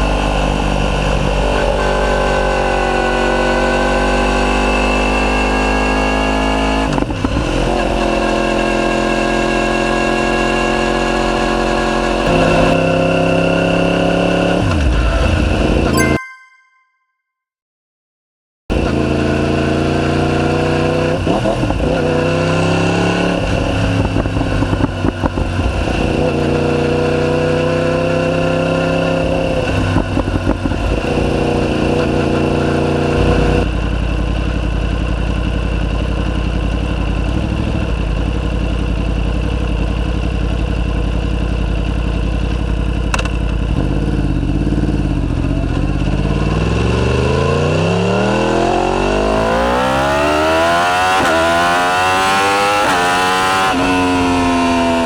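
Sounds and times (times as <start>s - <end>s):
motorcycle engine revving: 0.0s - 15.9s, 18.7s - 55.0s.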